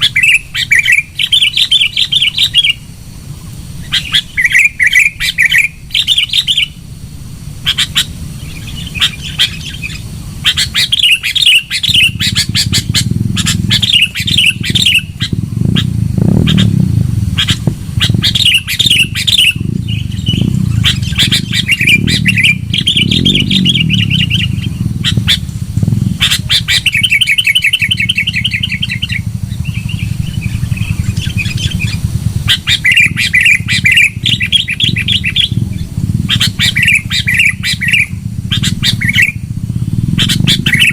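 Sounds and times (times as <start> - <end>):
bird chattering calls: 0.0 - 40.9
steady low hum: 0.0 - 40.9.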